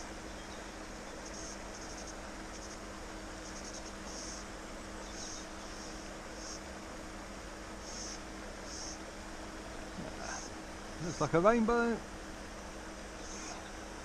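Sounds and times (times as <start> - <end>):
faint low hum: 0.0 - 14.0
insects chirping: 0.0 - 14.0
steady hiss: 0.0 - 14.0.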